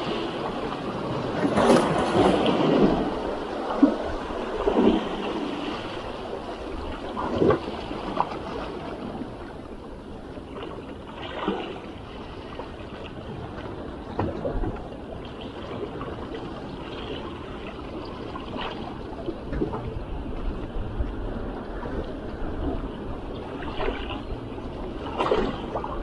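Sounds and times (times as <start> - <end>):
wave splash: 0.0 - 26.0
waves lapping against rocks: 0.0 - 26.0.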